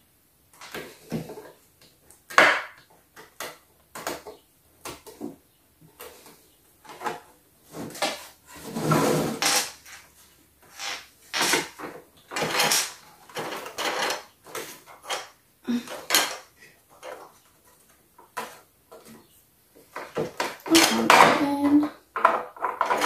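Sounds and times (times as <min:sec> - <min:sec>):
plastic pieces knocking and scraping: 0:00.5 - 0:23.0.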